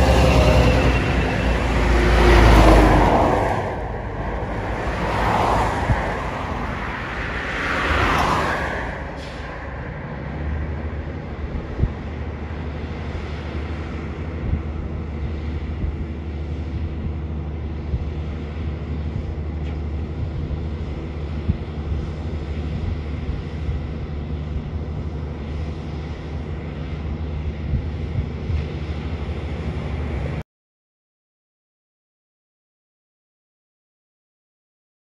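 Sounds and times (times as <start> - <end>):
truck diesel engine running: 0.0 - 7.5, 8.8 - 30.4.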